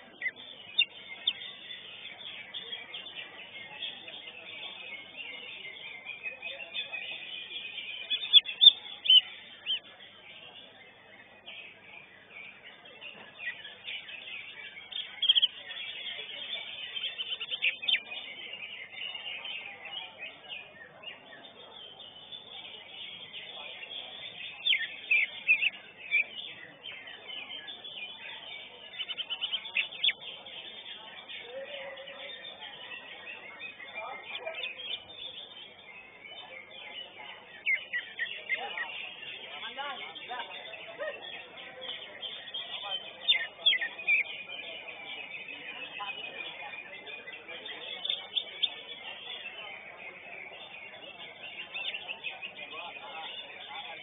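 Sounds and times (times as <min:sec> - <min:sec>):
bird singing sharp high chirps: 0:00.0 - 0:54.0
faint crowd murmur: 0:00.0 - 0:54.0
other songbirds singing: 0:00.0 - 0:54.0.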